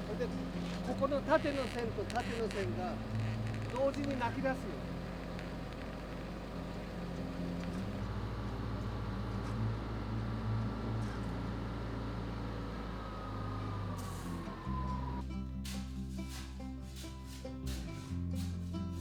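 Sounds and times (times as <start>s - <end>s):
engine humming: 0.0s - 19.0s
faint engine whine: 0.0s - 19.0s.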